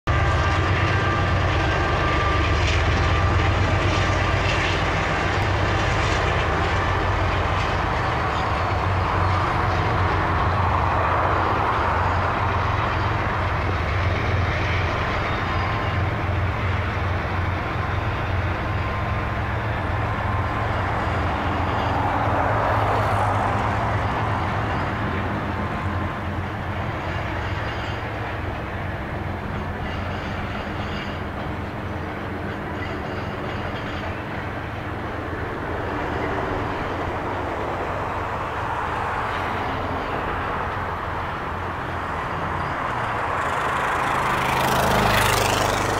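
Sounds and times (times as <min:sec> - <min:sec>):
diesel locomotives running: 0:00.0 - 0:45.9
freight cars rolling on rails: 0:00.1 - 0:45.9.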